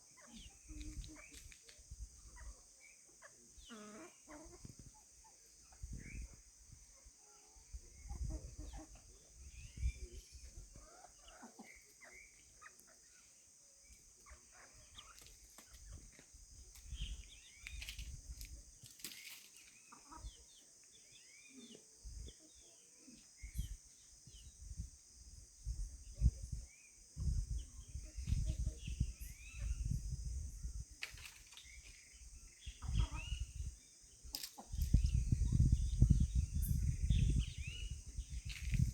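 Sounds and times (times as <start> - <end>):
chickens clucking and chirping: 0.0 - 24.9, 25.6 - 38.9.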